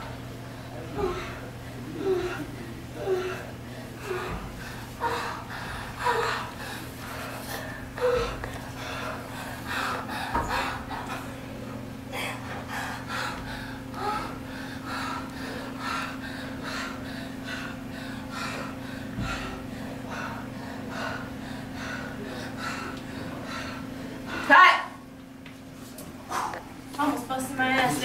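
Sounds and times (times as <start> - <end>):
people breathing heavily and gasping: 0.0 - 26.8
steady low hum: 0.0 - 28.0.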